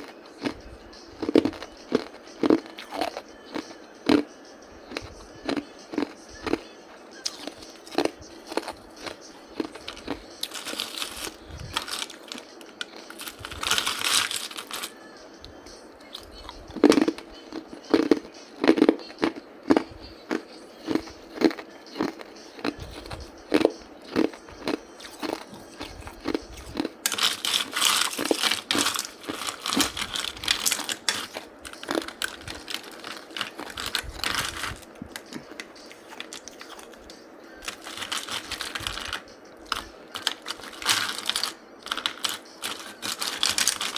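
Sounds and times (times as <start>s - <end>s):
chewing and crunching ice: 0.0s - 4.3s, 4.9s - 14.9s, 16.1s - 43.9s.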